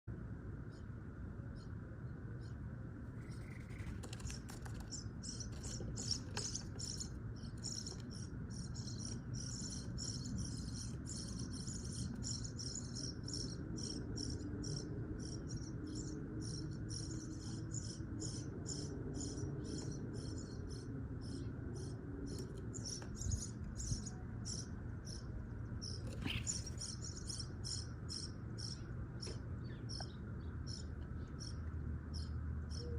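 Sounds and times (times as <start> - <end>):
starlings chirping: 2.4 - 32.9.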